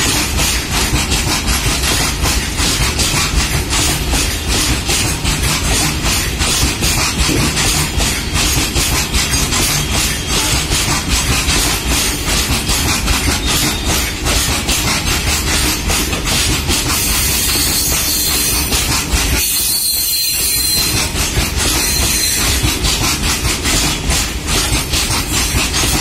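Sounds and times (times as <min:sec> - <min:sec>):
freight wagon wheels clattering: 0:00.0 - 0:19.5, 0:20.1 - 0:26.0
train rumble: 0:00.0 - 0:26.0.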